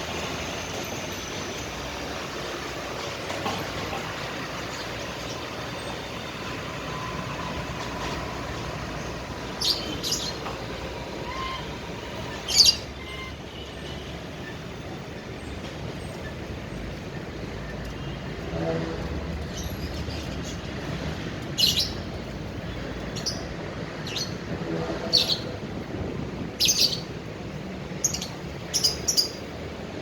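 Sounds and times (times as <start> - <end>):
steady background noise: 0.0 - 30.0.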